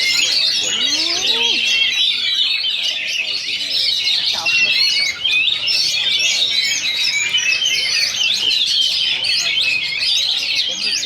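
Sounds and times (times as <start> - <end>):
birds whistling and chirping: 0.0 - 11.0.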